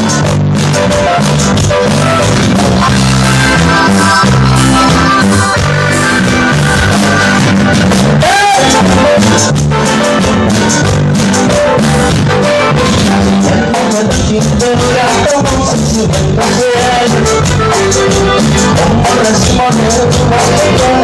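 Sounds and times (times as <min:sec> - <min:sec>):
latin dance band music: 0:00.0 - 0:21.0.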